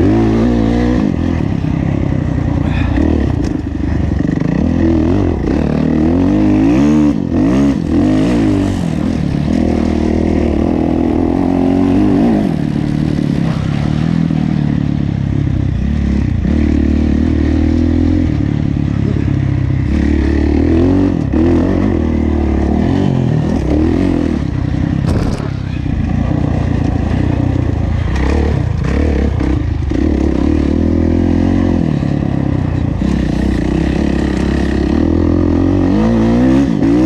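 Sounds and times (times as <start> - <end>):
motocross engine revving: 0.0 - 14.7, 15.8 - 37.0.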